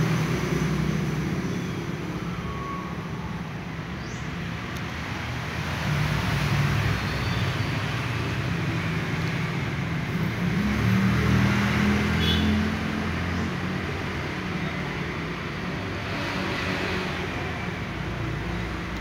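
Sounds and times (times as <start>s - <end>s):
road traffic engine rumble: 0.0s - 19.0s.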